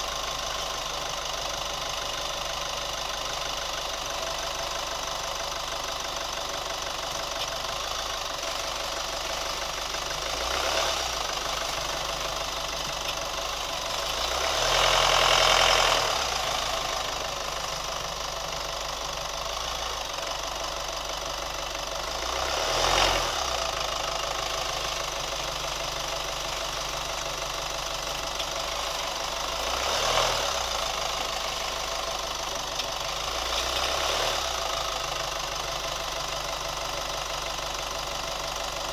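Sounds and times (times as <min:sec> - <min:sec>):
engine ticking: 0:00.0 - 0:38.9
pickup engine running: 0:00.0 - 0:38.9.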